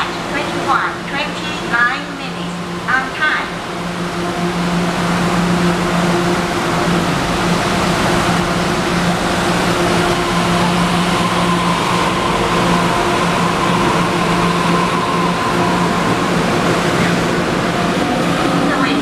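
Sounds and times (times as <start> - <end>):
electric train hum: 0.0 - 19.0.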